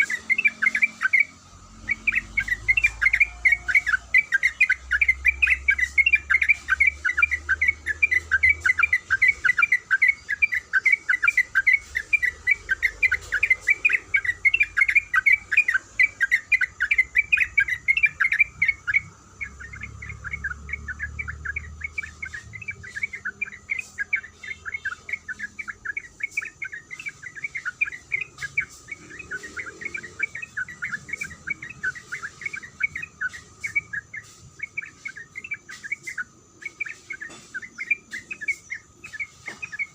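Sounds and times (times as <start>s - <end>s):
bulbul chirping: 0.0s - 39.9s
faint insect-like hum: 0.0s - 39.9s.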